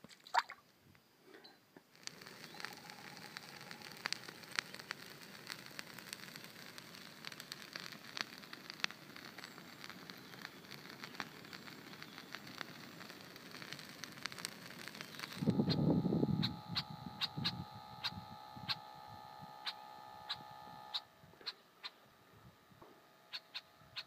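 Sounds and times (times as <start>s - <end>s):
soft fire hiss: 0.6s - 24.0s
fire crackling and popping: 1.8s - 21.1s.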